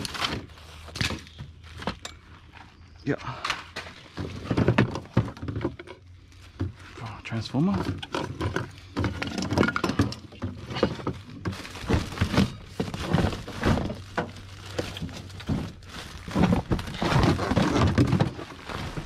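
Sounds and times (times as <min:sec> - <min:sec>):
junk knocking and scraping: 0:00.0 - 0:19.0.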